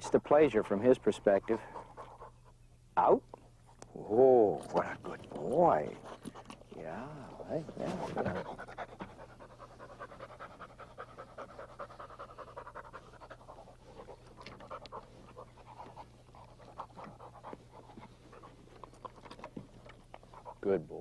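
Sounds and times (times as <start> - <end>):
dog panting: 0.0 - 2.7, 4.7 - 20.9
faint steady hum: 0.0 - 21.0.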